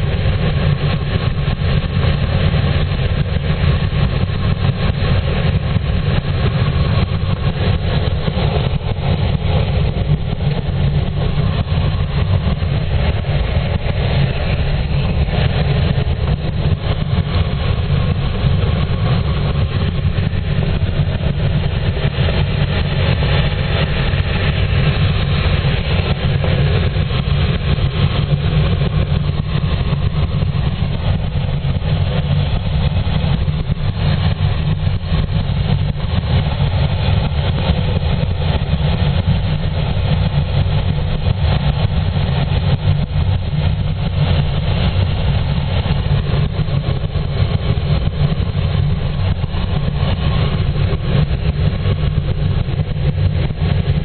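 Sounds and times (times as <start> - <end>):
airflow rumble over glider canopy: 0.0 - 54.0.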